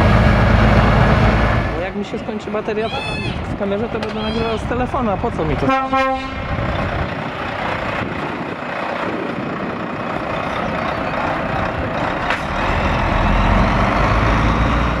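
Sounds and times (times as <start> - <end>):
truck diesel engine rumble: 0.0 - 15.0
truck tyres on road: 0.0 - 15.0.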